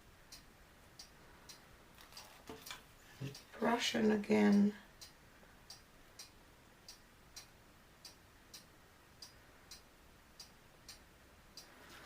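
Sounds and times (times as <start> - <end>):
faint regular ticking: 0.0 - 12.0.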